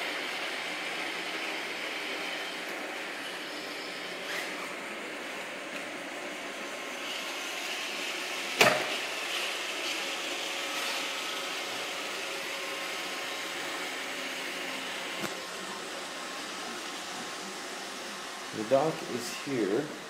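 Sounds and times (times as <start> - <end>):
robot vacuum running: 0.0 - 20.0.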